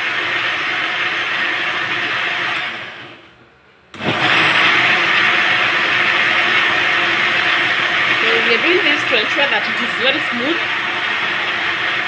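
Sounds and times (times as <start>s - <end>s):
blender running: 0.0s - 3.3s, 4.0s - 12.0s.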